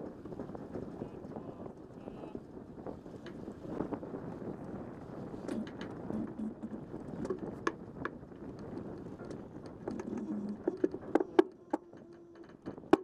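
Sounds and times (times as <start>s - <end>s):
water along hull: 0.0s - 13.0s
wind on microphone: 0.0s - 13.0s.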